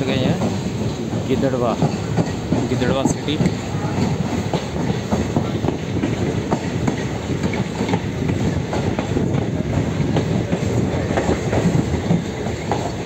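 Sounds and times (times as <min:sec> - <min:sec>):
train wheels rumbling: 0:00.0 - 0:13.0
wheels clicking over rail joints: 0:00.0 - 0:13.0.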